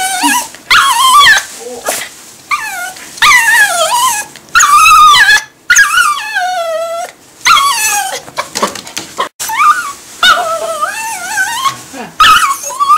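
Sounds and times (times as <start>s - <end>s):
dog whining: 0.0s - 8.6s, 9.2s - 12.9s.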